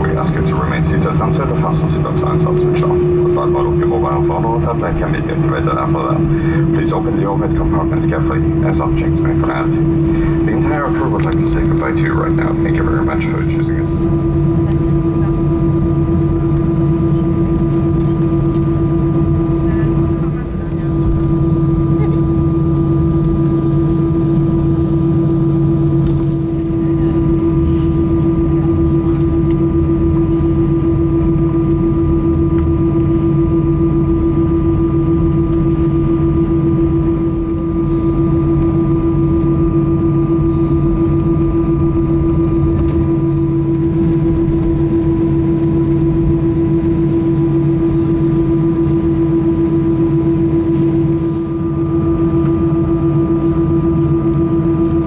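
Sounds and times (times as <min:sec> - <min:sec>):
aircraft cabin engine hum: 0:00.0 - 0:55.0
high steady whine: 0:00.0 - 0:55.0.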